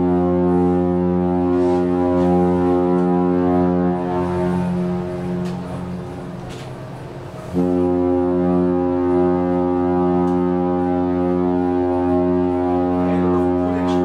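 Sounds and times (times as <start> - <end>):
deep ship horn blasts: 0.0 - 14.0.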